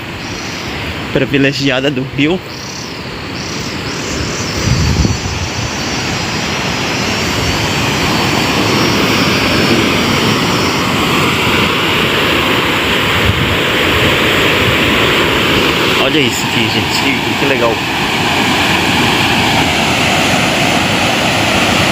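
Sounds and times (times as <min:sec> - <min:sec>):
insects chirping: 0:00.0 - 0:21.9
river rushing over rocks: 0:02.7 - 0:21.9.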